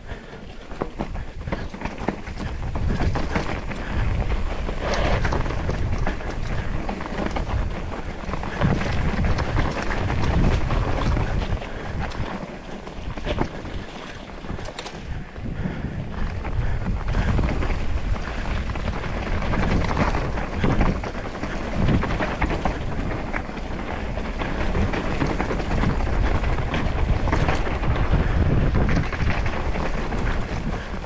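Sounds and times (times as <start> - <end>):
bike tyre roar: 0.0 - 31.0
wind on microphone: 0.0 - 31.0
bike rattling knocks: 0.1 - 31.0.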